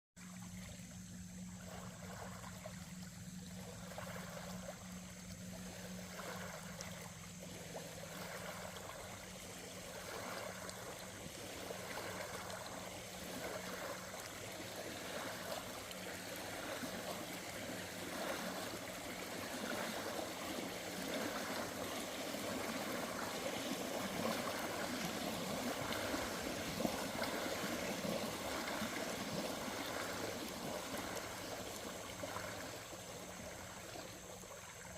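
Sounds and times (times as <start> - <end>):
low steady hum: 0.2 - 34.9
water flowing and trickling: 0.2 - 34.9.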